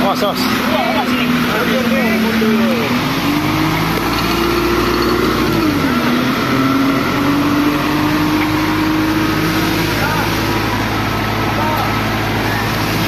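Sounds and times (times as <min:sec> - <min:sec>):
small engine running: 0:00.2 - 0:13.0.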